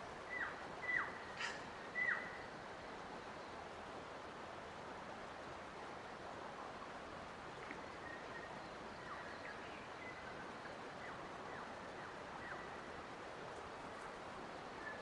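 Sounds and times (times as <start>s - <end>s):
forest ambience hiss: 0.0s - 15.0s.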